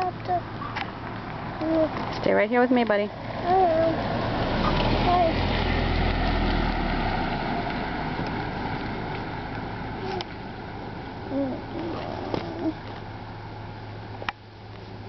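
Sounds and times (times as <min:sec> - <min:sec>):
outdoor background hiss: 0:00.0 - 0:15.0
vehicle engine humming: 0:00.0 - 0:15.0.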